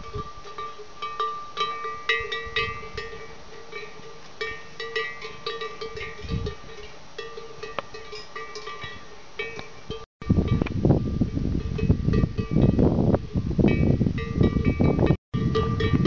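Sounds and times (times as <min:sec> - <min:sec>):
cowbells clanking: 0:00.0 - 0:16.0.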